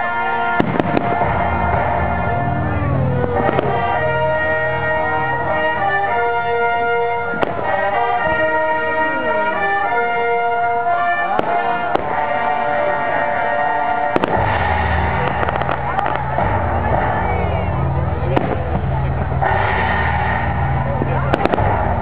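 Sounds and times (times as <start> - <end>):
firework bangs: 0.0 - 22.0
orchestral music with brass chords: 0.0 - 22.0.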